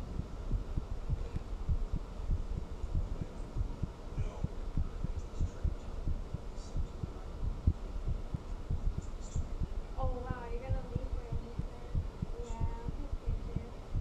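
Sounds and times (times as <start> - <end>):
heartbeat thuds: 0.0 - 14.0.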